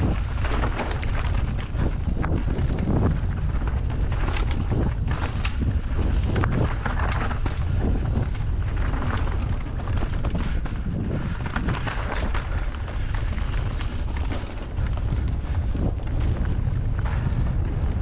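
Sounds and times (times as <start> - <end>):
bike rattling and knocking: 0.0 - 18.0
tyres crunching over stones: 0.0 - 18.0
wind on microphone: 0.0 - 18.0.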